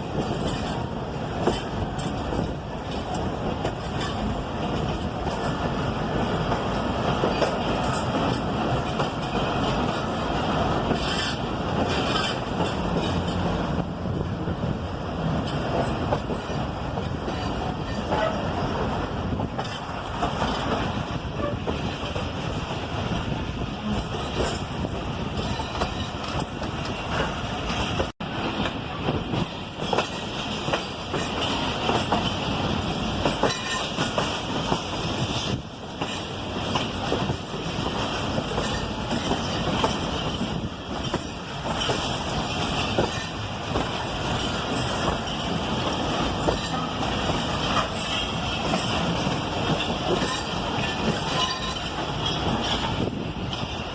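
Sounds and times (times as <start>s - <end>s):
train rumbling along track: 0.0s - 53.9s.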